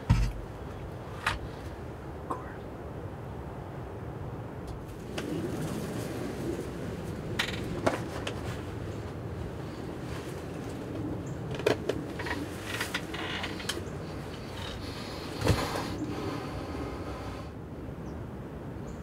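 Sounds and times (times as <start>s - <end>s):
wind hiss: 0.0s - 18.8s.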